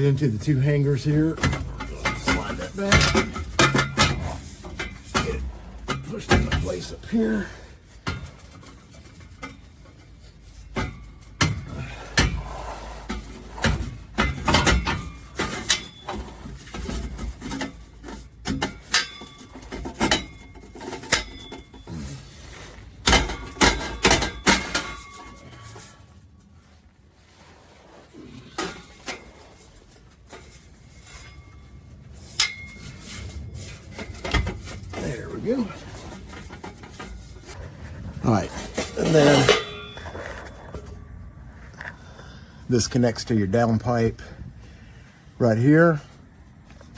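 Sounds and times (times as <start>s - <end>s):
metal exhaust pipe clanking: 0.0s - 45.3s.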